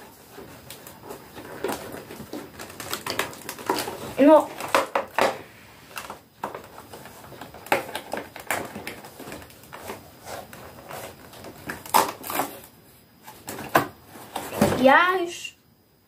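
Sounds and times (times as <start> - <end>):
cardboard and plastic rustling: 0.0 - 15.1.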